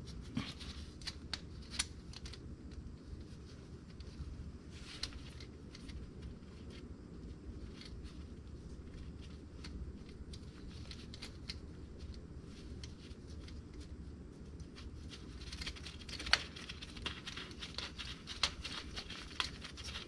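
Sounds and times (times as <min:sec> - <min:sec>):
gloved hands rustling: 0:00.0 - 0:20.0.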